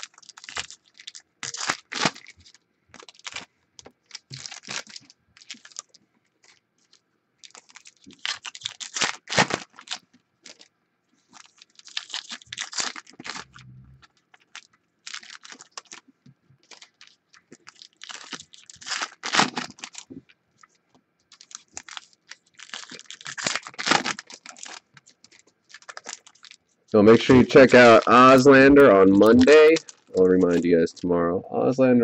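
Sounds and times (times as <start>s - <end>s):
foil wrappers tearing and crinkling: 0.0s - 31.1s.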